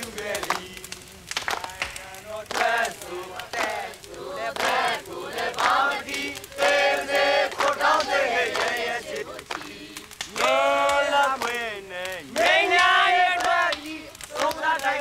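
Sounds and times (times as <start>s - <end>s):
group singing chant-like song: 0.0s - 15.0s.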